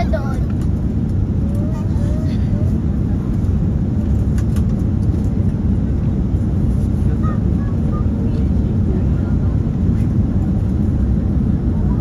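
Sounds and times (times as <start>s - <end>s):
airliner engines roaring in cabin: 0.0s - 12.0s.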